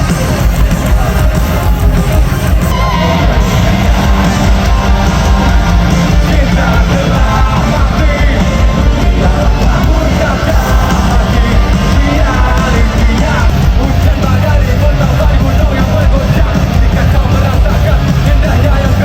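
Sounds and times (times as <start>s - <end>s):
live rock band: 0.0s - 19.0s
person singing: 0.0s - 19.0s.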